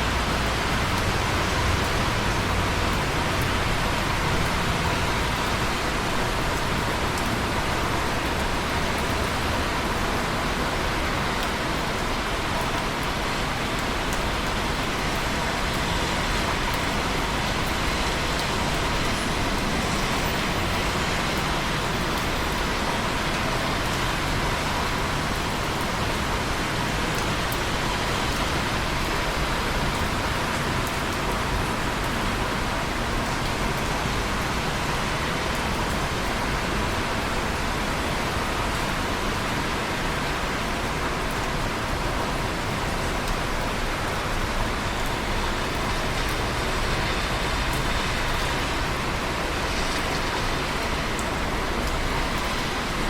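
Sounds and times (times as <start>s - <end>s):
raindrops ticking: 0.0s - 53.0s
steady rain hiss: 0.0s - 53.0s.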